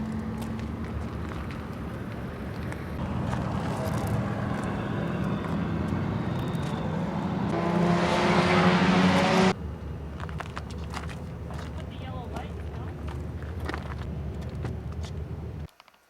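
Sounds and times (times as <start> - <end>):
car engine running: 0.0 - 15.7.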